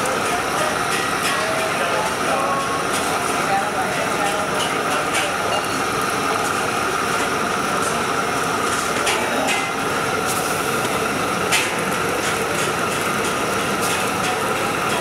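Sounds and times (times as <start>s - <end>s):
batter frying sizzle on griddle: 0.0s - 15.0s.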